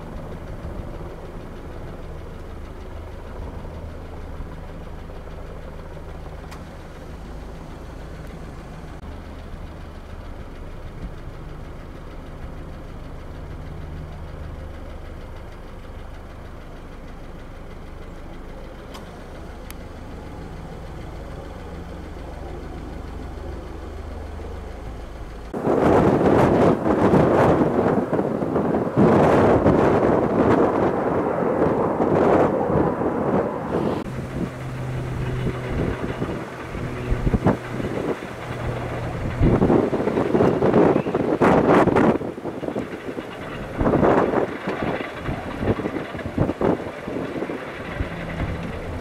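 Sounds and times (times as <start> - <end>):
vehicle engine idling: 0.0 - 49.0.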